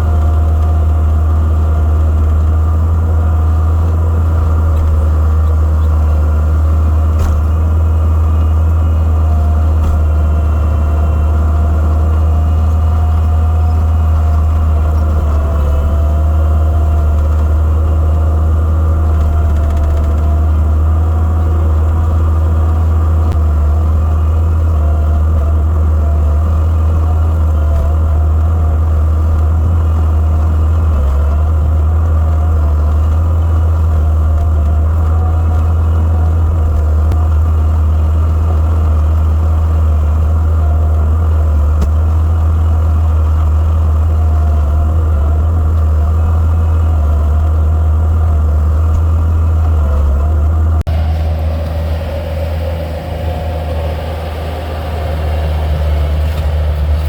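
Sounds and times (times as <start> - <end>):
skid steer engine droning: 0.0 - 57.0.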